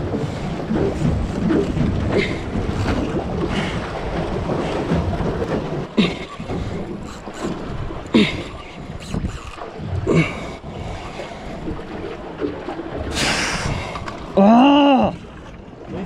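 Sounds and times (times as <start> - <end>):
water slapping boat hull: 0.0 - 16.0.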